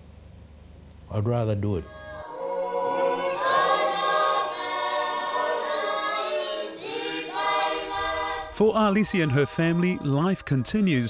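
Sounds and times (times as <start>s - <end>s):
children's choir singing: 1.8s - 11.0s.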